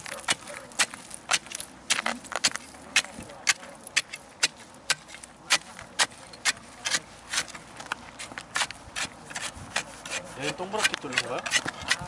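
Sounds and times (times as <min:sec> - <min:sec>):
ice chisel chopping ice: 0:00.0 - 0:07.6, 0:08.2 - 0:12.0.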